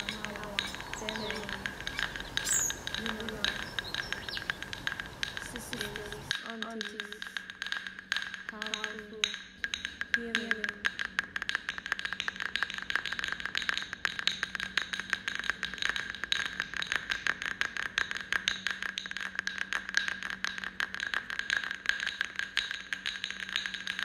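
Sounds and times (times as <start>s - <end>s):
fast clicking percussion: 0.0s - 24.0s.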